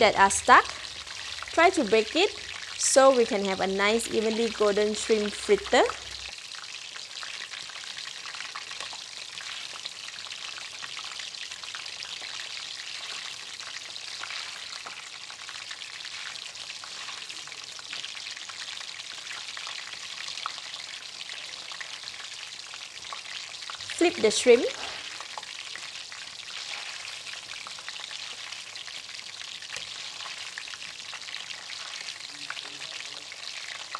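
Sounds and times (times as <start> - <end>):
deep-frying sizzle and crackle: 0.0 - 33.9.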